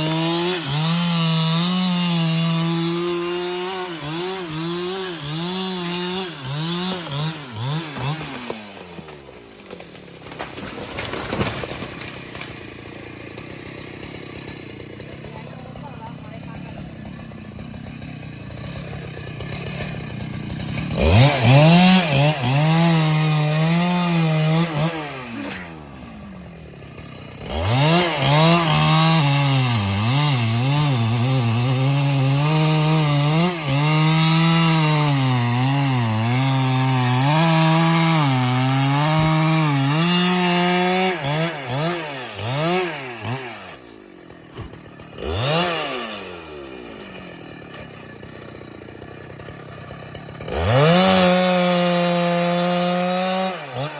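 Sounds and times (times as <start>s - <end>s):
chainsaw cutting: 0.0s - 53.9s.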